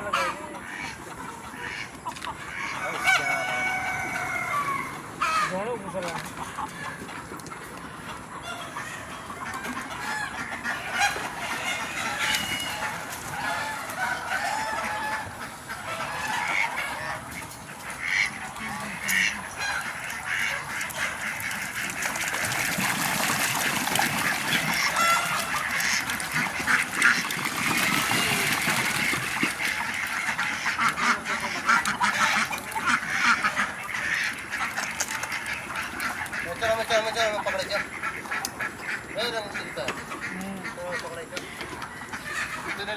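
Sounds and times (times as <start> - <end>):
poultry calling: 0.0 - 42.9.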